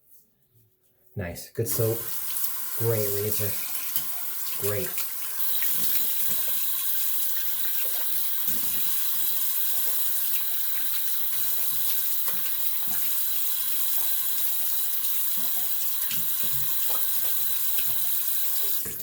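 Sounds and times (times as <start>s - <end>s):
tap water running into sink: 1.7s - 19.0s.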